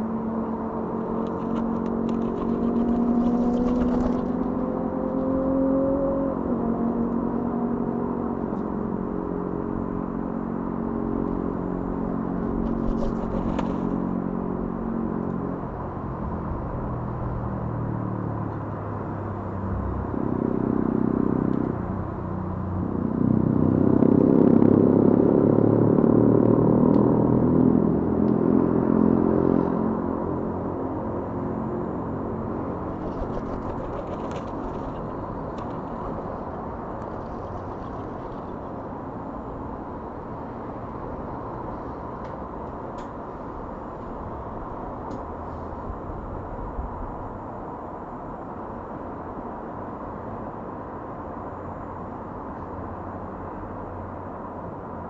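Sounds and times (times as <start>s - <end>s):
motor engine droning: 0.0s - 55.0s.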